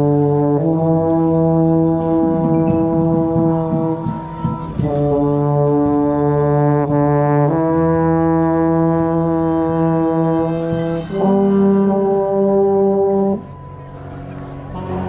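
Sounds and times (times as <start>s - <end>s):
brass ensemble sustained chords: 0.0s - 15.0s.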